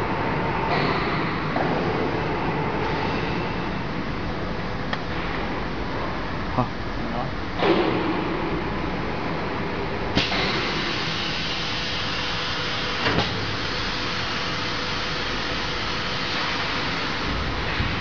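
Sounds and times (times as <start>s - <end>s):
machine running with steady hiss: 0.0s - 18.0s.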